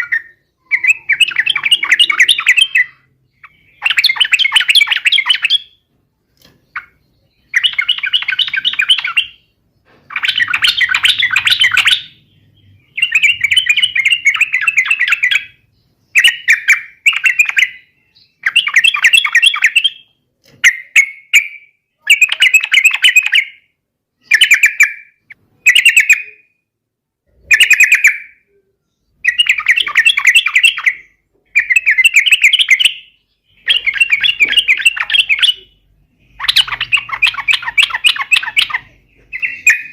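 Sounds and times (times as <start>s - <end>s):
bird chattering song: 0.0s - 26.6s, 27.3s - 39.9s.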